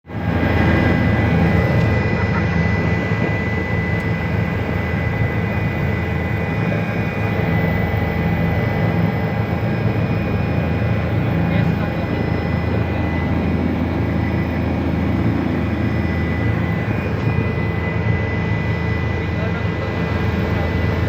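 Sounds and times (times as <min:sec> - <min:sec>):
helicopter turbine and rotor: 0:00.0 - 0:21.0.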